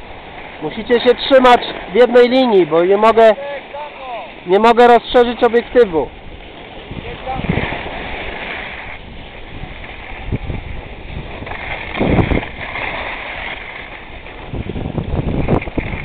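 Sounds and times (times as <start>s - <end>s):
skis scraping over packed snow: 0.0s - 16.0s
wind buffeting microphone: 0.0s - 16.0s.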